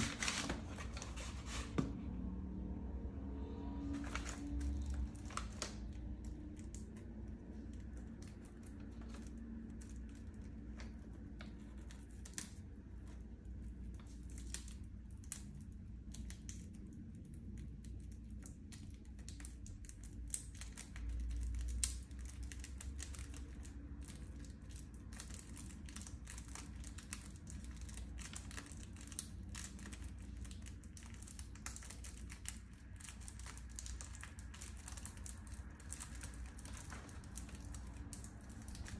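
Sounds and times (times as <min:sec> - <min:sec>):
plastic film crinkling and clicking: 0:00.0 - 0:01.8, 0:03.8 - 0:38.9.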